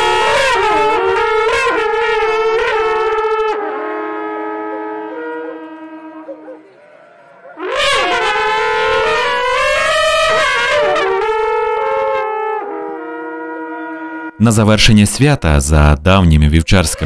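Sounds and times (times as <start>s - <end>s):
long alpine horns blowing: 0.0s - 14.5s.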